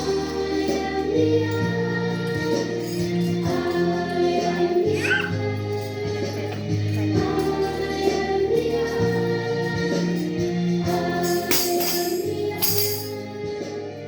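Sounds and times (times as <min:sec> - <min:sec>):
tambourine-like rattles: 0:00.0 - 0:13.7
voices singing: 0:00.0 - 0:14.0.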